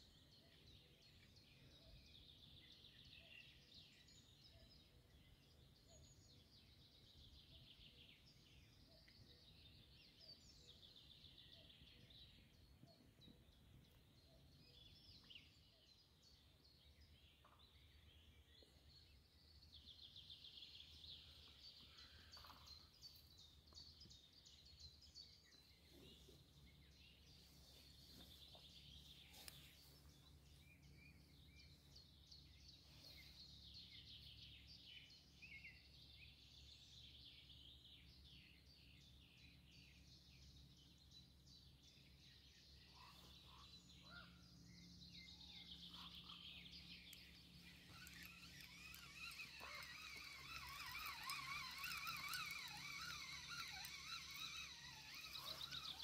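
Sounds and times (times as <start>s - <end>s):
chorus of songbirds: 0.0s - 56.0s.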